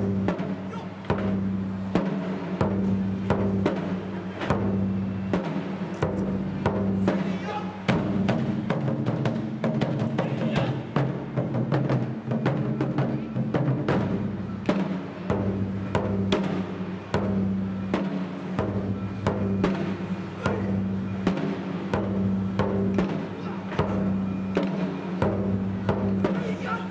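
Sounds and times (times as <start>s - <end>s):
taiko drums: 0.0s - 26.9s.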